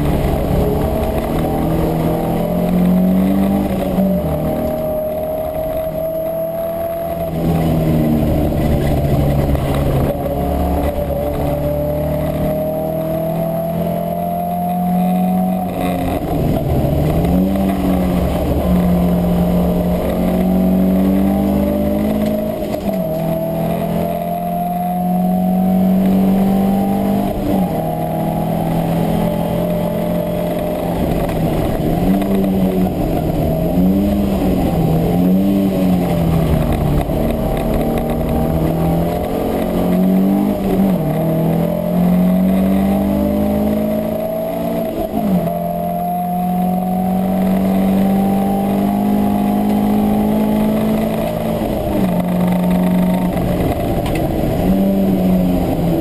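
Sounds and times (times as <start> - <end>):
race car engine under load: 0.0 - 56.0.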